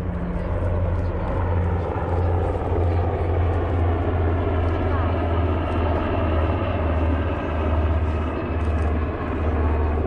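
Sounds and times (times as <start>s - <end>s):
aircraft engine rumble: 0.0s - 10.0s.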